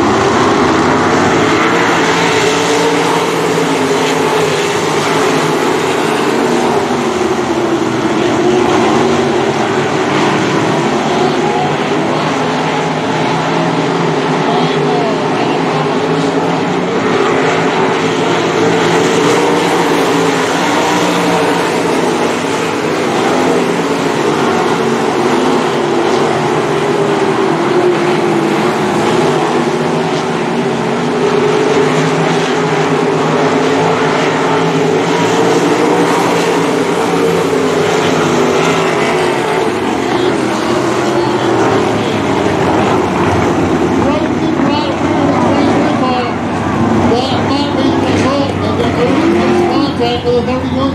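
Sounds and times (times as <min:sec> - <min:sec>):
racing car engines droning: 0:00.0 - 0:50.9.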